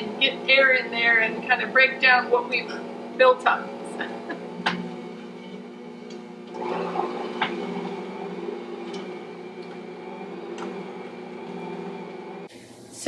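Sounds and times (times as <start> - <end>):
stand mixer motor hum: 0.0 - 12.6.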